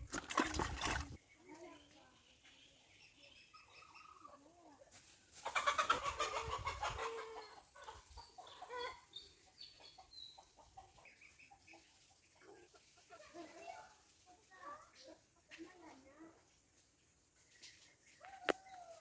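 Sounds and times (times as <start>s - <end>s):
chickens clucking: 0.0s - 1.8s, 2.4s - 19.0s.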